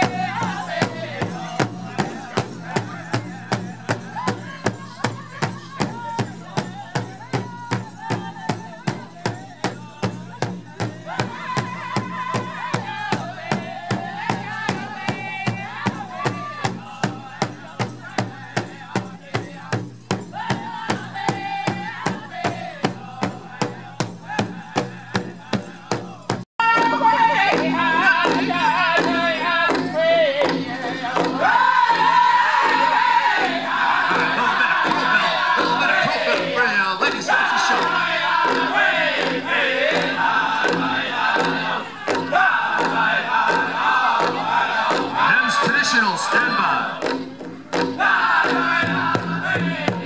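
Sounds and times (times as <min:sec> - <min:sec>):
high-pitched group singing: 0:00.0 - 0:50.0
large drum steady beat: 0:00.0 - 0:50.0.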